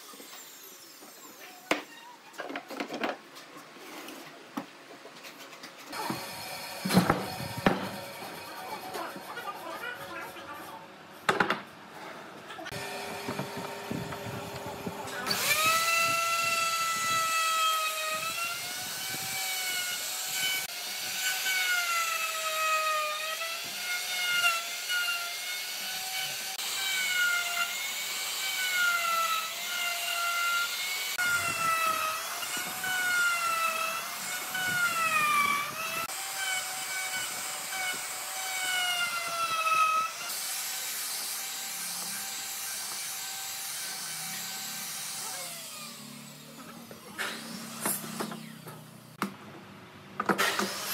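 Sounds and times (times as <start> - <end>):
router cutting wood: 5.9 - 9.8, 12.7 - 49.2, 50.3 - 50.9.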